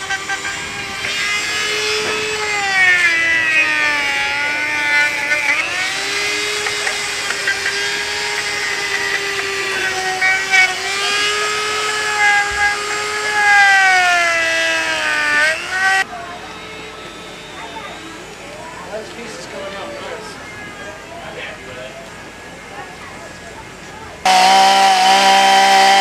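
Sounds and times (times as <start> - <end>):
rotary tool whining in wood: 0.0 - 20.4, 24.3 - 26.0.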